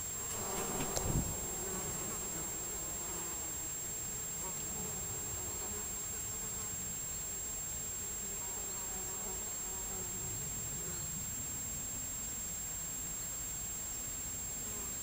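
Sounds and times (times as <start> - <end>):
insect buzzing: 0.0 - 11.4, 13.2 - 15.0
steady hiss: 0.0 - 15.0.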